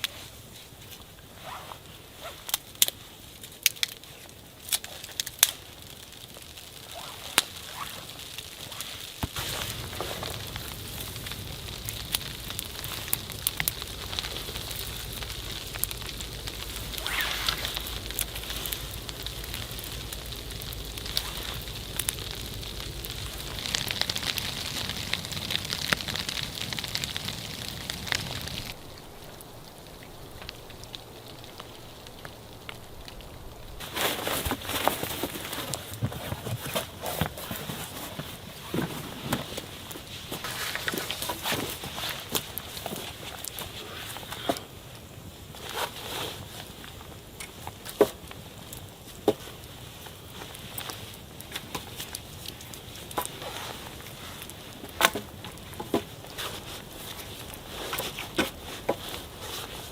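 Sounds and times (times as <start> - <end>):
low rumble and hiss: 0.0 - 59.9
wood fire crackling: 0.0 - 59.9.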